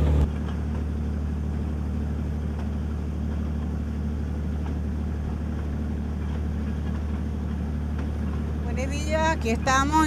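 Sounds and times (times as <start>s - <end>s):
heavy machinery engine droning: 0.0s - 10.0s.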